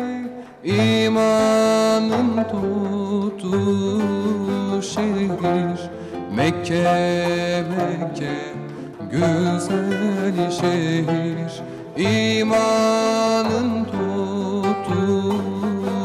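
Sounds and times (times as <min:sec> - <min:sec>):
man singing devotional hymn: 0:00.0 - 0:16.0
plucked string accompaniment: 0:00.0 - 0:16.0.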